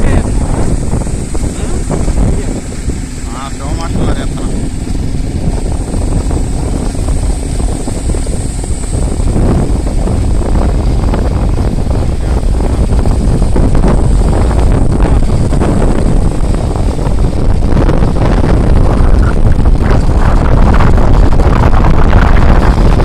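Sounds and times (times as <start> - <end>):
motorcycle engine rumble: 0.0 - 23.0
road noise: 0.0 - 23.0
wind buffeting microphone: 0.0 - 23.0.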